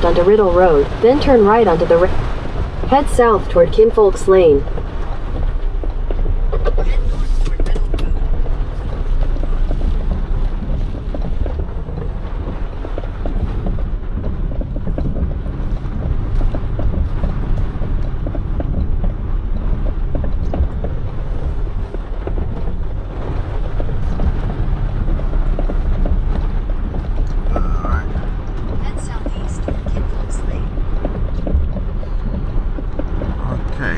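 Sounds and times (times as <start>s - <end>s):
heavy rain on roof: 0.0s - 33.9s
truck engine rumbling: 0.0s - 33.9s.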